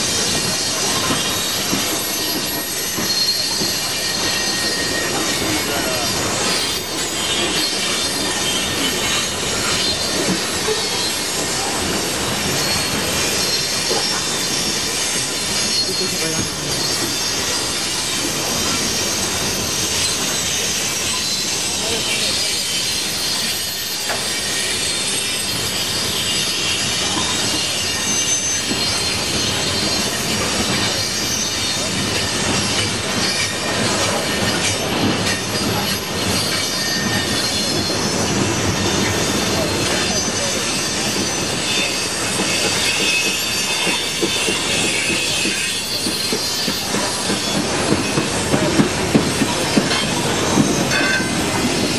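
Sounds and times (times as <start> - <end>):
train rumble and clatter: 0.0 - 51.9
wheels squealing on rails: 0.0 - 51.9.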